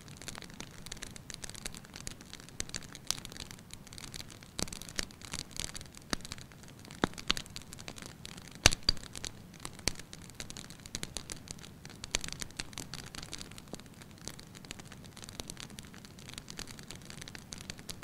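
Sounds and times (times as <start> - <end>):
sharp pops and snaps: 0.0 - 18.0
soft hiss: 0.0 - 18.0
wood fire crackling: 0.0 - 18.0.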